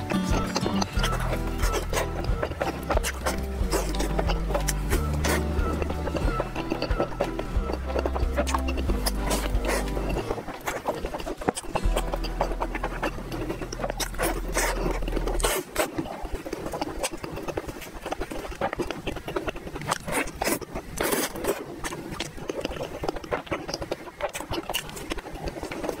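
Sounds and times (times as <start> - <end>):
low steady hum: 0.0 - 26.0
mouth chewing bread: 0.0 - 26.0.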